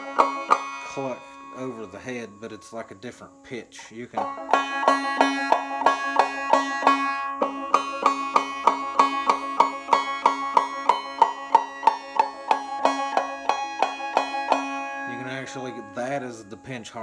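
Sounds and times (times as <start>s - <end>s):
ringing high harmonic: 0.0s - 3.7s, 4.3s - 17.0s
banjo clawhammer strokes: 0.0s - 17.0s.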